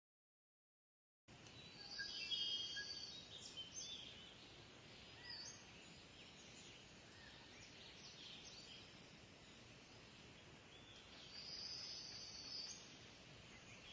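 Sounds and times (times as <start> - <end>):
background hiss: 1.3 - 13.9.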